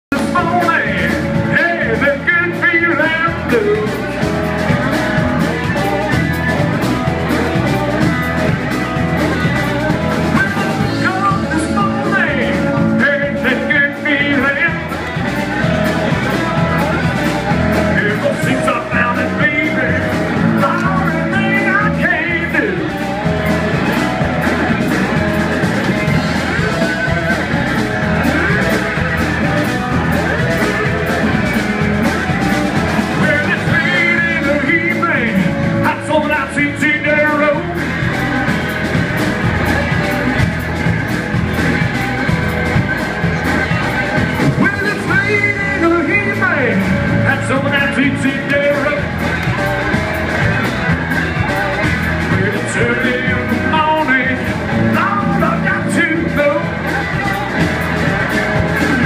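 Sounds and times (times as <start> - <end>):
electric blues band playing: 0.1 - 59.0.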